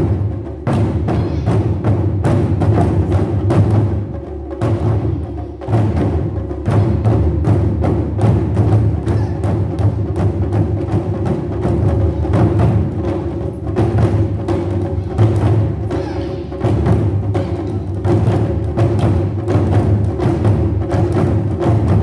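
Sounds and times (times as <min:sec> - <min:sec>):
taiko drums playing fast rhythm: 0:00.0 - 0:22.0.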